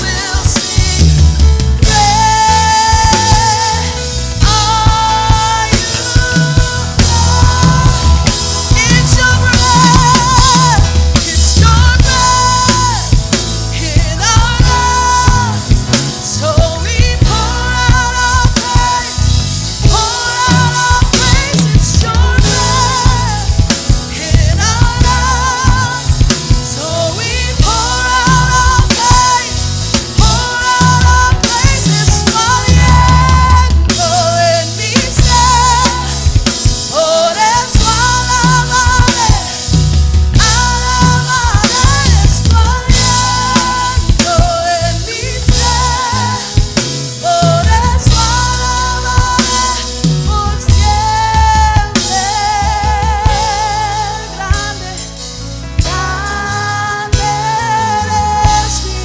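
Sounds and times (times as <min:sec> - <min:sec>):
drum kit beat: 0:00.0 - 0:59.0
person singing with vibrato: 0:00.0 - 0:59.0
worship band playing: 0:00.0 - 0:59.0.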